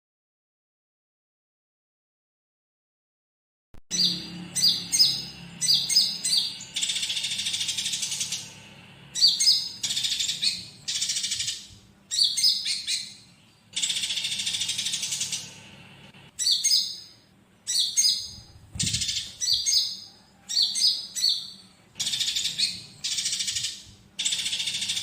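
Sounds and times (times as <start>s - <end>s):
songbird chirping and trilling: 3.9s - 25.0s.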